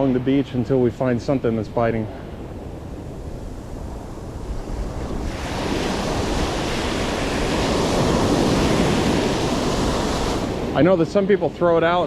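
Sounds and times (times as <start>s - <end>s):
small waves breaking on sand: 0.0s - 12.0s
wind rumble on microphone: 0.0s - 12.0s.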